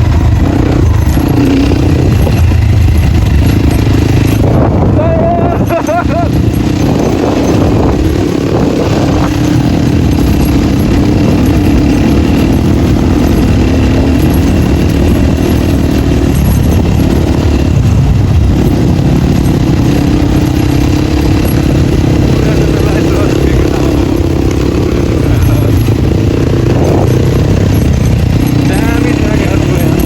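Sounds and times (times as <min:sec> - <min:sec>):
dirt bike engine on open exhaust: 0:00.0 - 0:30.0.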